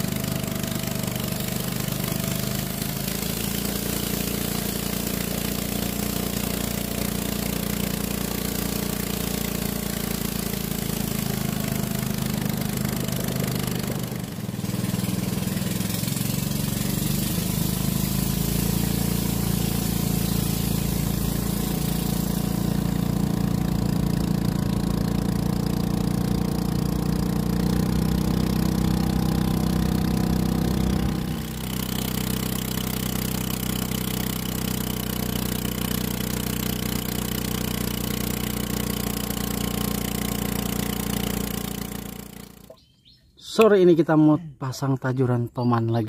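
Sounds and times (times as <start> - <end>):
boat engine running: 0.0 - 42.8.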